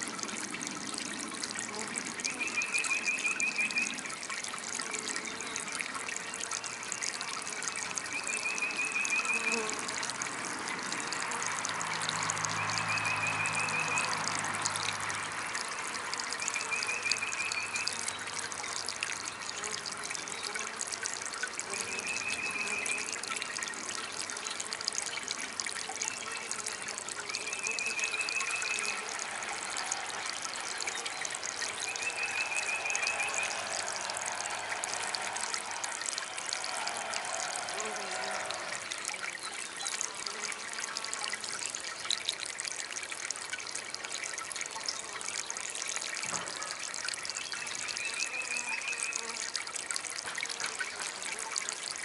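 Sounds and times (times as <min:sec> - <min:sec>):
water fountain trickling: 0:00.0 - 0:52.0.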